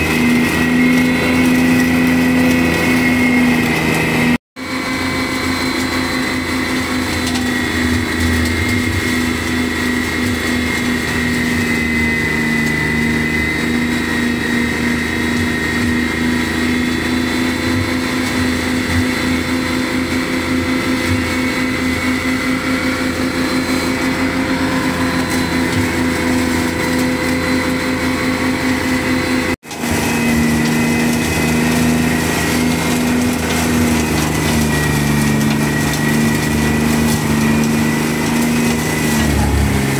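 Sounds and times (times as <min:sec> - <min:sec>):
flail mower cutting brush: 0:00.0 - 0:39.9
high whine: 0:00.0 - 0:39.9
tractor engine running: 0:00.0 - 0:39.9.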